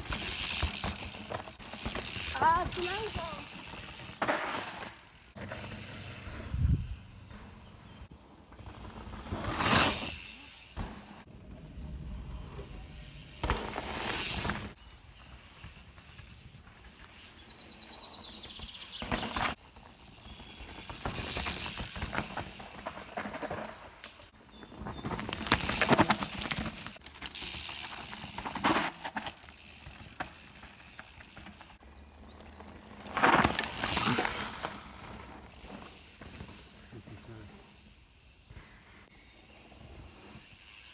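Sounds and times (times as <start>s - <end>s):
bike tyres rushing over dirt: 0.0s - 40.9s.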